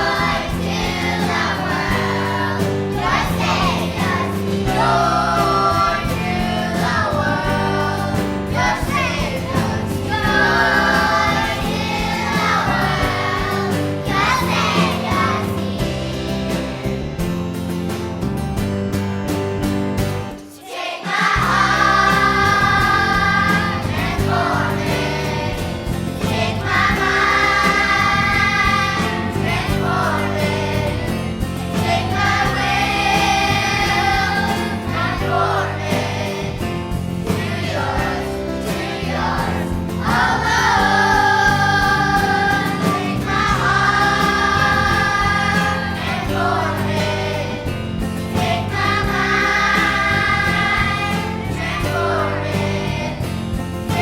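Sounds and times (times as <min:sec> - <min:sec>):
choir singing: 0:00.0 - 0:16.7, 0:20.4 - 0:54.0
instrumental accompaniment: 0:00.0 - 0:54.0.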